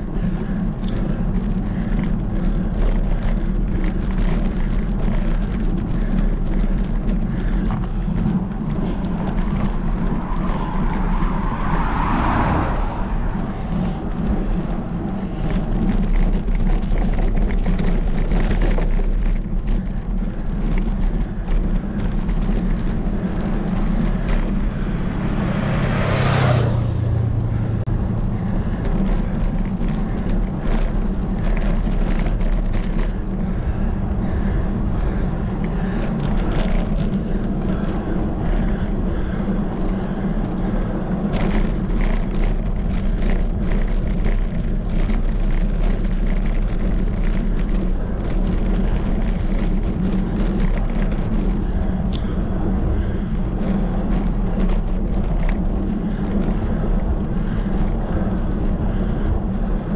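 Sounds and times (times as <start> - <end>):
motor vehicles passing: 0.0 - 59.9
wind and road noise rumble: 0.0 - 59.9.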